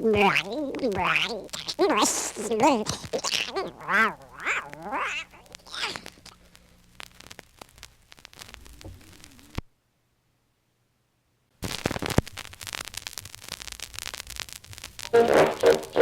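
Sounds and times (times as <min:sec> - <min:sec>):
vinyl record crackling and clicking: 0:00.0 - 0:09.7, 0:11.5 - 0:16.0
vinyl record pops: 0:00.0 - 0:09.7, 0:11.6 - 0:16.0.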